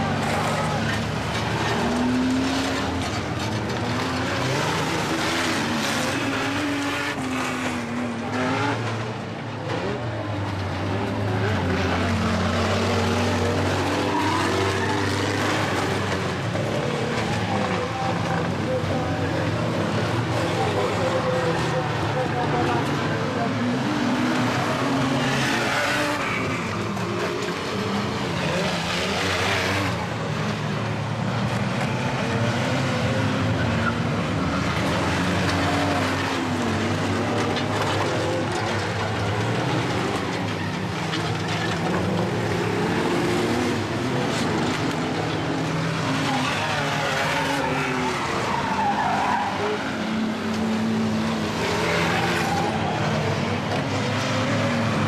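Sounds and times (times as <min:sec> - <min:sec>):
van engines revving: 0:00.0 - 0:55.0
tyres skidding on loose surface: 0:10.5 - 0:55.0.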